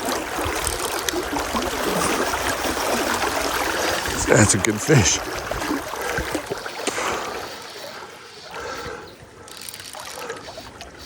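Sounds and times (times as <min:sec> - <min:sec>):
stream water splashing: 0:00.0 - 0:11.0.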